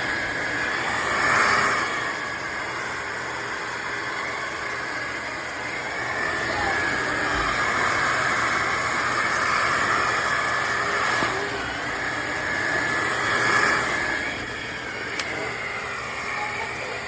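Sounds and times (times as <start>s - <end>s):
vacuum mop motor whine: 0.0s - 17.0s.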